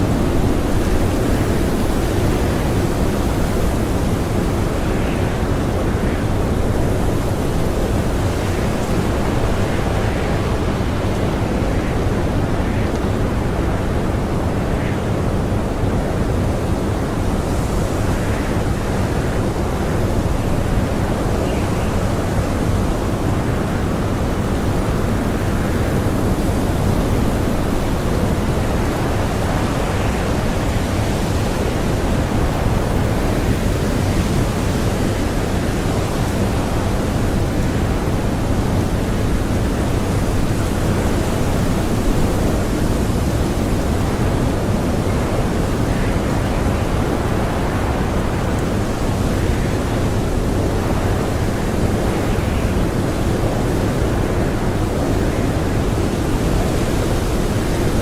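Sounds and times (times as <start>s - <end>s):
blizzard wind howling: 0.0s - 58.0s.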